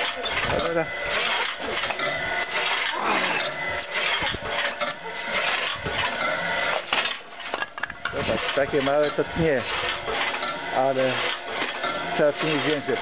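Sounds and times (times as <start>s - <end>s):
log splitter motor running: 0.0s - 13.0s
metal and wood scraping: 0.0s - 13.0s.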